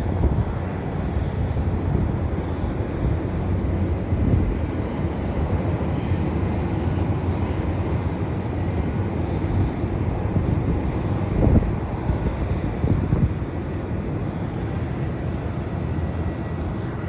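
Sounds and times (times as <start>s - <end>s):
turboprop plane taking off: 0.0s - 17.0s
wind buffeting microphone: 0.0s - 17.0s.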